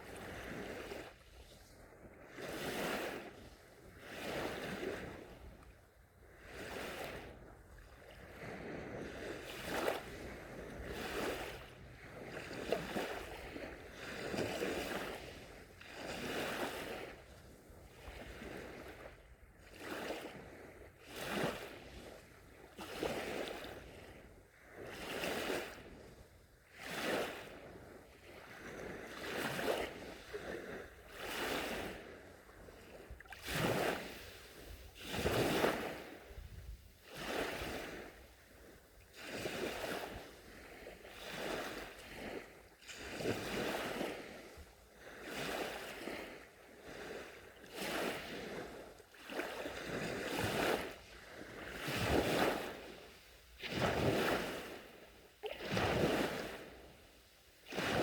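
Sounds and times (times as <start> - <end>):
gentle sea waves breaking: 0.0 - 58.0.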